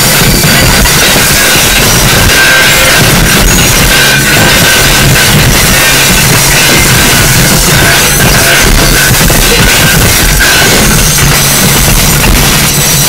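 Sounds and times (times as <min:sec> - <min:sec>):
harsh distorted noise music: 0:00.0 - 0:13.0
thin high whine: 0:00.0 - 0:13.0.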